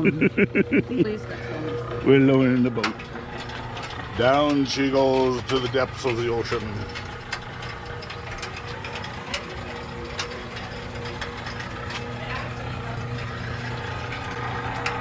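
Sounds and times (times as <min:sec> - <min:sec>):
boat lift motor hum: 0:00.0 - 0:15.0
gear and ratchet noise: 0:01.6 - 0:15.0.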